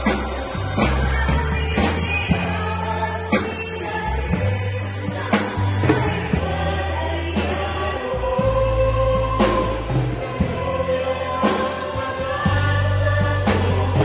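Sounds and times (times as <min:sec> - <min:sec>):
bass notes: 0:00.0 - 0:14.0
choir singing gospel song: 0:00.0 - 0:14.0
drum beats: 0:00.0 - 0:14.0.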